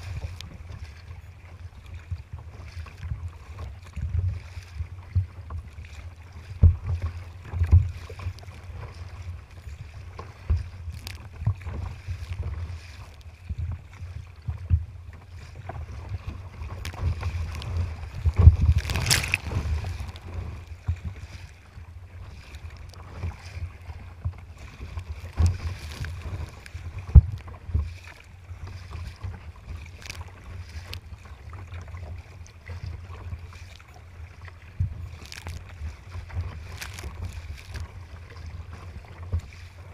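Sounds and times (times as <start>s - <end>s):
water slapping against kayak: 0.0s - 39.9s.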